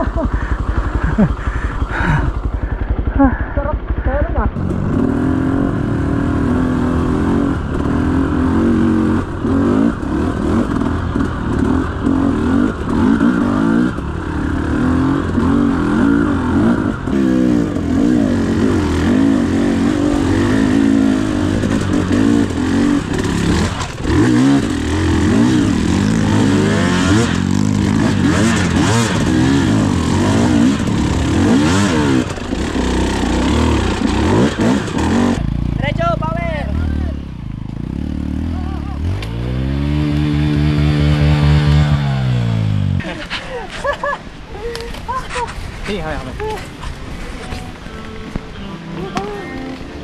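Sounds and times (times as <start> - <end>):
dirt bike engine revving: 0.0 - 44.2.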